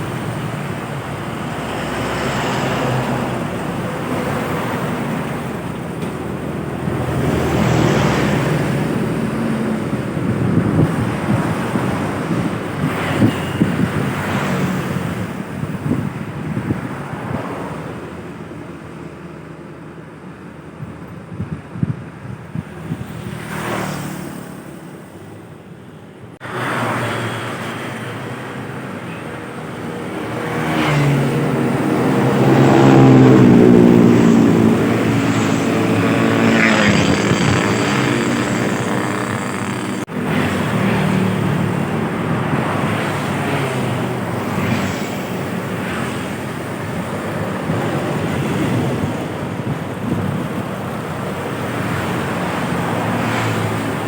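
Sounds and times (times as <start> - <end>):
diesel trucks driving past: 0.0 - 21.3, 23.3 - 54.0
tyre and road noise: 0.0 - 54.0.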